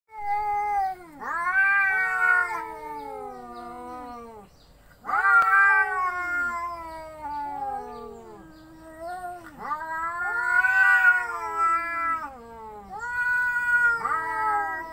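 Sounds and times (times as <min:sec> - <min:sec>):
cat yowling: 0:00.1 - 0:04.4, 0:05.0 - 0:14.9.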